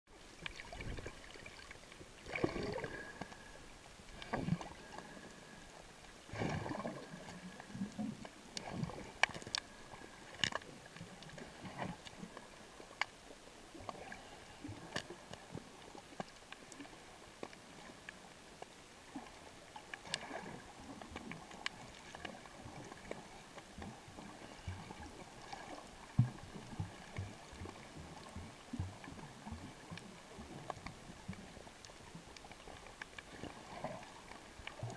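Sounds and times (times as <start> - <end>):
muffled underwater water wash: 0.1 - 34.9
sharp underwater clicks and cracks: 0.3 - 34.9.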